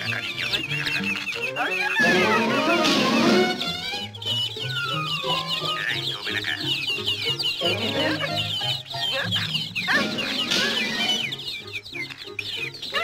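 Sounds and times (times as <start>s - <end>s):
baby chicks peeping: 0.0s - 13.0s
background music: 0.0s - 13.0s.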